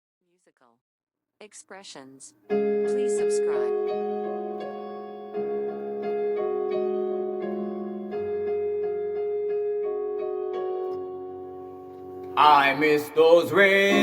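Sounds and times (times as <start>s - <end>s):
keyboard playing slow chords: 2.5s - 14.0s.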